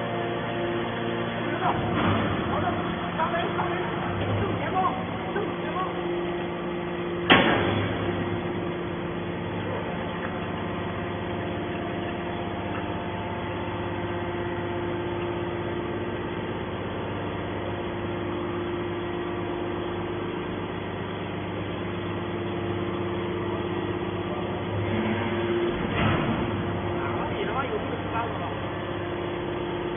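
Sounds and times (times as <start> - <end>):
hydraulic baler humming and whining: 0.0 - 29.9.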